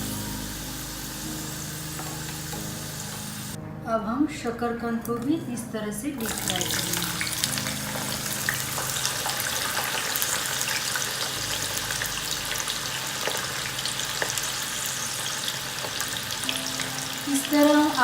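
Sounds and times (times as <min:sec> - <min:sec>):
deep frying sizzle: 0:00.0 - 0:03.6, 0:06.2 - 0:18.0.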